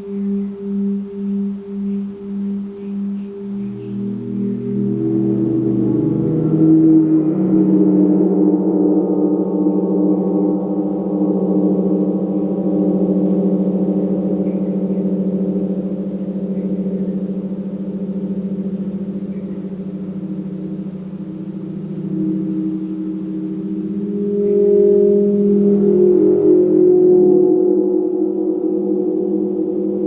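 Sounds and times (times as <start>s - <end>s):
gong ringing: 0.0s - 30.0s.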